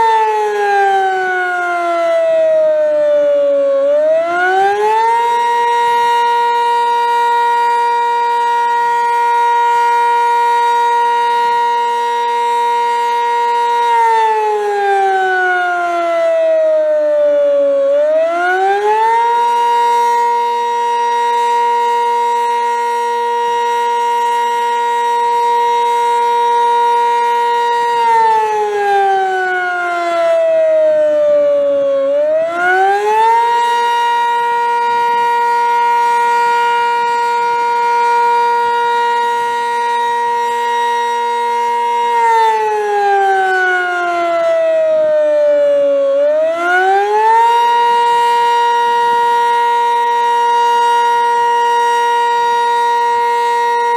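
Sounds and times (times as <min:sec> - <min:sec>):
dual-tone warning siren wailing: 0:00.0 - 0:53.9.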